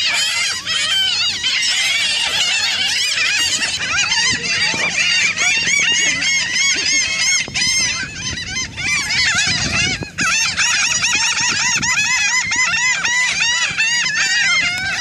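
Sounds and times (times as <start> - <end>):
flock of gulls calling: 0.0 - 15.0.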